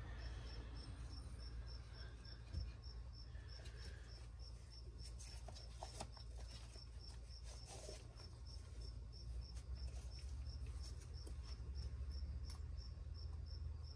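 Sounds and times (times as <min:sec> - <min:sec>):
faint low hum: 0:00.0 - 0:13.9.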